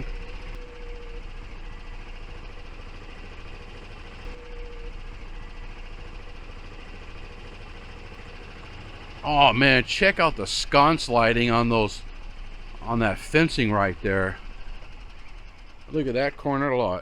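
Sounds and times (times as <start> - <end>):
faint steady whine: 0.0 - 17.0
vehicle driving slowly: 0.0 - 17.0.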